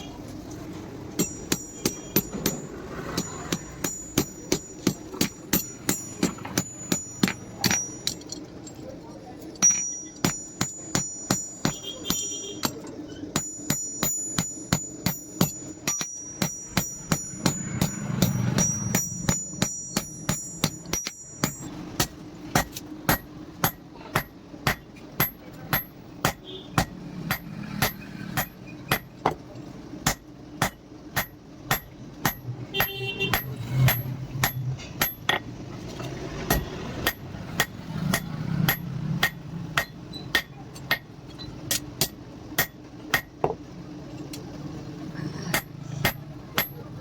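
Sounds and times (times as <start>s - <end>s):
hammer striking steel on anvil: 1.1s - 8.5s, 9.6s - 29.4s, 30.0s - 35.5s, 36.4s - 43.6s, 45.5s - 46.9s.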